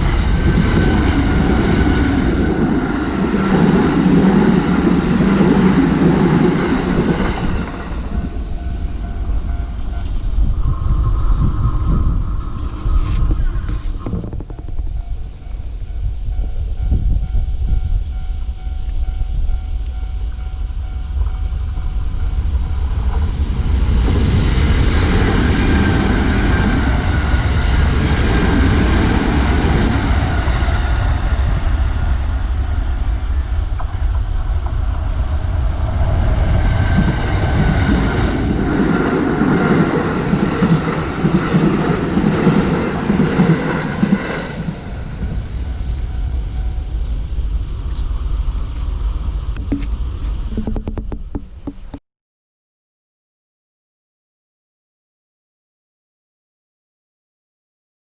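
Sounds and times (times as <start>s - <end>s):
electric train passing: 0.0s - 51.7s.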